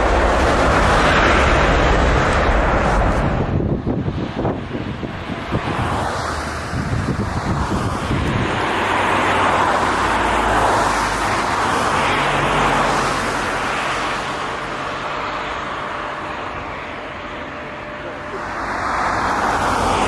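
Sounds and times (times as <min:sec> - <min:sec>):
jet engine rushing: 0:00.0 - 0:20.0.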